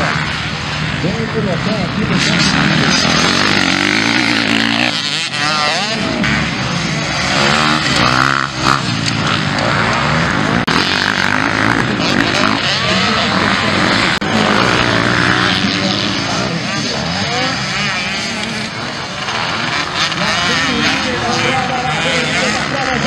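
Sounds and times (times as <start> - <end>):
motorbike engines revving: 0.0 - 23.0.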